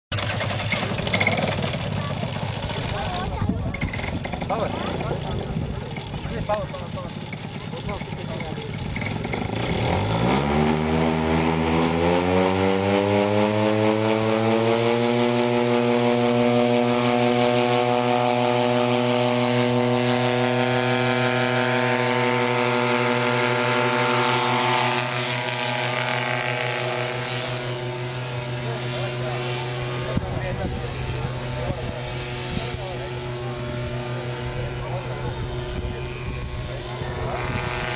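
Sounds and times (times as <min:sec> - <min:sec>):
propeller engine revving: 0:00.1 - 0:37.9.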